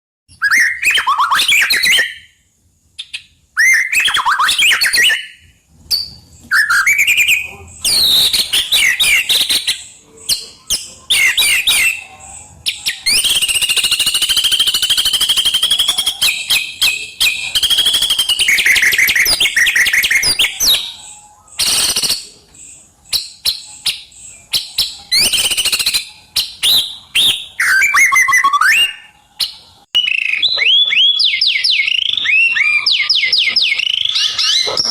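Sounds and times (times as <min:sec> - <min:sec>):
songbird whistles and trills: 0:00.3 - 0:34.9.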